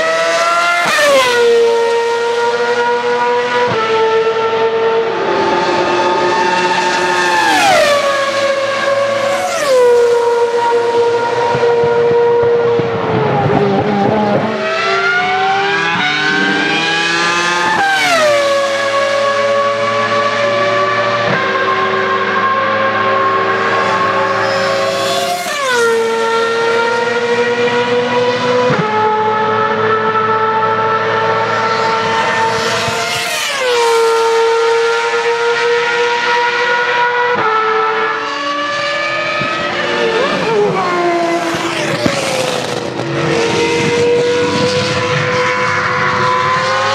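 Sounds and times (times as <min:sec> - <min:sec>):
racing car engine revving: 0:00.0 - 0:46.9.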